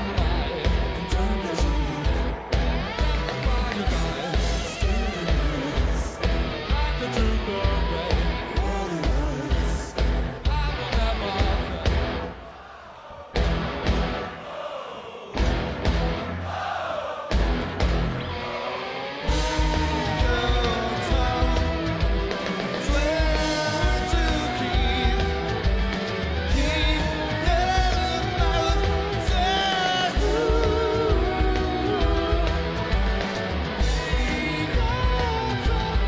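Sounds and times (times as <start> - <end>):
live rock band playing: 0.0 - 12.3, 13.4 - 14.2, 17.4 - 36.0
man singing lead vocal: 0.0 - 13.4, 18.4 - 36.0.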